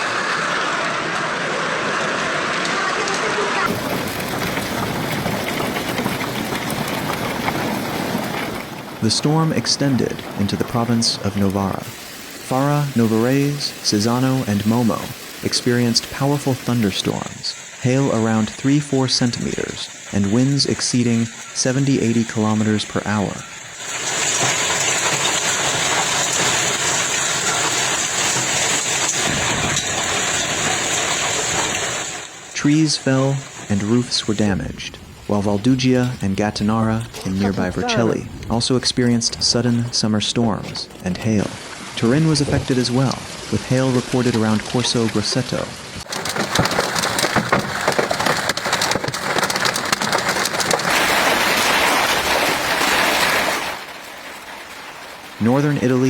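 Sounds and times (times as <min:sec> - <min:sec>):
hailstones clattering: 0:00.0 - 0:56.0
heavy rain falling: 0:00.0 - 0:56.0.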